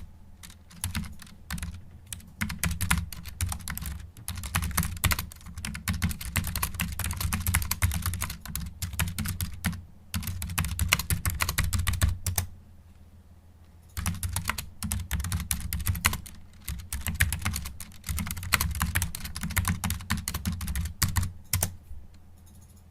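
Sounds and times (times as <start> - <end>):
fast typing on computer keyboard: 0.0 - 12.5, 13.9 - 21.8.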